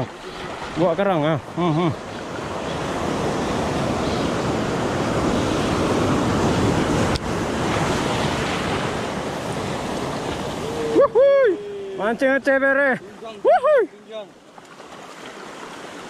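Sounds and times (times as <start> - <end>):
surf breaking over rocks: 0.0 - 13.5.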